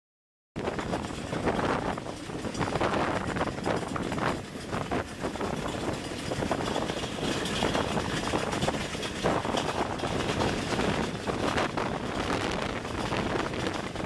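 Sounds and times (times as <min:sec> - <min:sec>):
train running noise: 0:00.6 - 0:14.0
wind rushing over microphone: 0:00.6 - 0:14.0.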